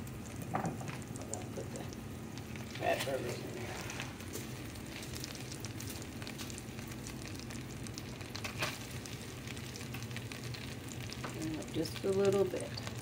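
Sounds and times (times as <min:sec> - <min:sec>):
burgers sizzling in a pan: 0:00.0 - 0:13.0.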